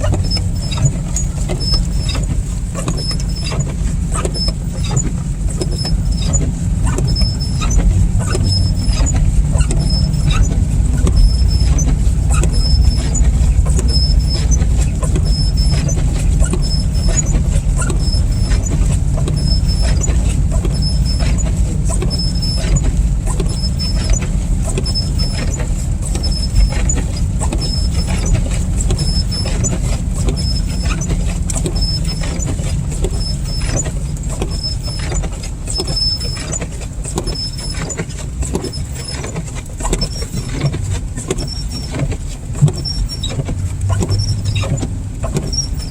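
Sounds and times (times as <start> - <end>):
car engine and tyres rumbling: 0.0 - 45.9
slush hitting car: 0.0 - 45.9
windshield wipers squeaking: 0.0 - 45.9.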